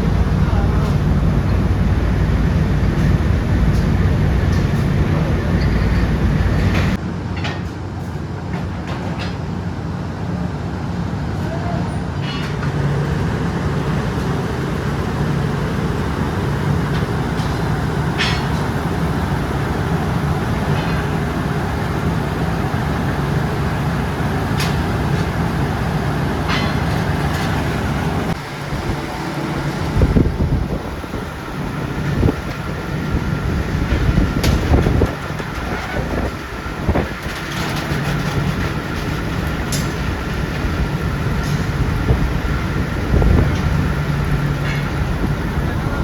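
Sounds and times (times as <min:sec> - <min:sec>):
machinery humming: 0:00.0 - 0:07.0, 0:12.0 - 0:46.0.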